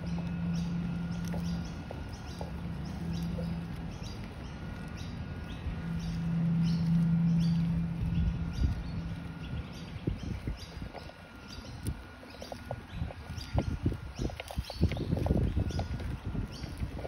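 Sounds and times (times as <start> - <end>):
low motor hum: 0.0 - 17.0
small birds chirping: 0.0 - 17.0.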